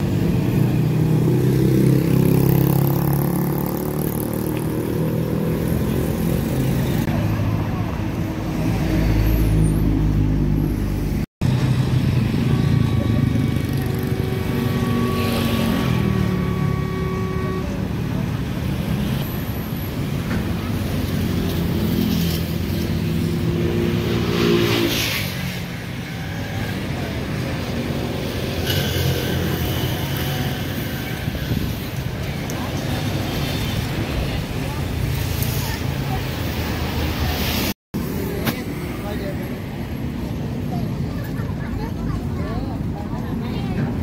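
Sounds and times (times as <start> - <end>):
engines passing by: 0.0 - 44.0.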